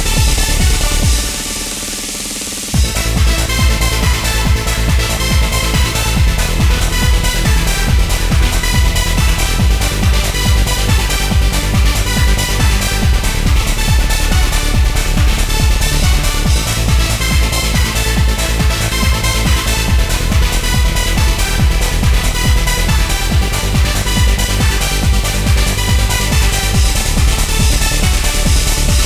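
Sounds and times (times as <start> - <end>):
instrumental trance music: 0.0 - 29.0.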